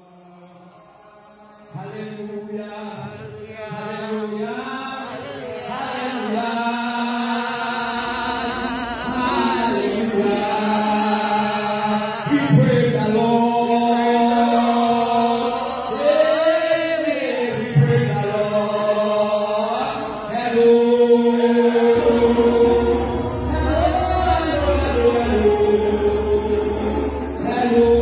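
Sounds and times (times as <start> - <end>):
person chanting slowly: 0.0 - 28.0.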